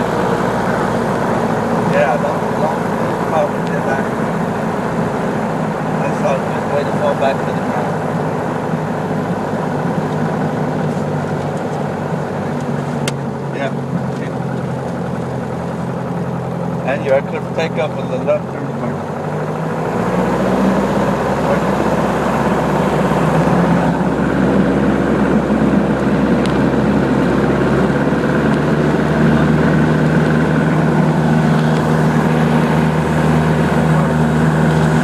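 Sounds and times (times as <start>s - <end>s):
aircraft engine and propeller: 0.0s - 35.0s.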